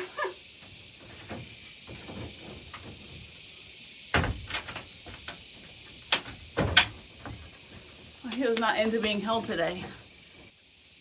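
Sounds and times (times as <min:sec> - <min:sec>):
cicadas droning: 0:00.0 - 0:11.0
sharp knocks and rattles: 0:00.4 - 0:10.5.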